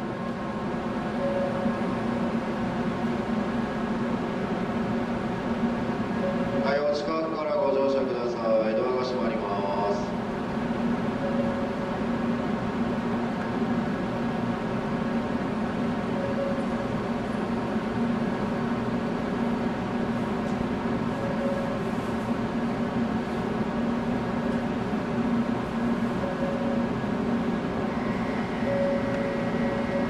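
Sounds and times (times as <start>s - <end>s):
train equipment humming: 0.0s - 30.0s.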